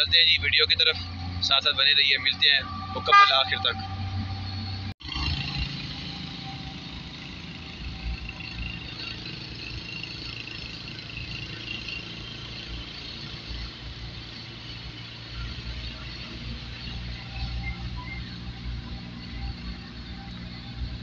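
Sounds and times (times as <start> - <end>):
car engine rumble: 0.0 - 21.0.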